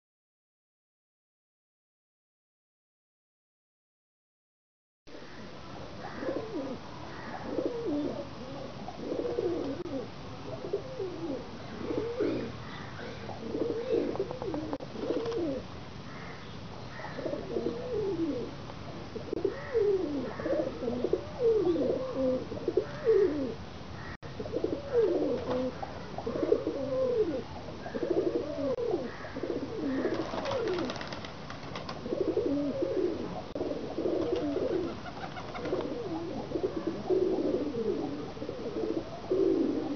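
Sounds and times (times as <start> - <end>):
pigeons cooing: 5.1 - 39.9.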